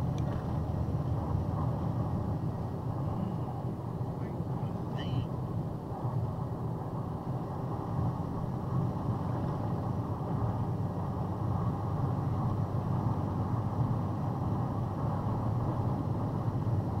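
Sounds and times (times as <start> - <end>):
road and engine drone in cabin: 0.0 - 17.0.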